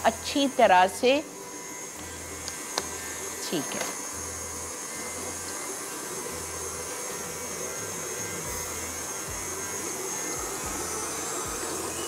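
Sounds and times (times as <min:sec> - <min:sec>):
stand mixer motor whirring: 0:00.0 - 0:12.0.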